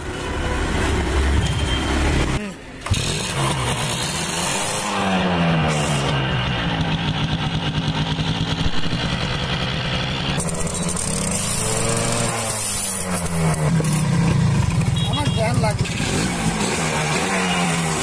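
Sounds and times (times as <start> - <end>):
two-stroke motorcycle engine running: 2.8 - 18.0.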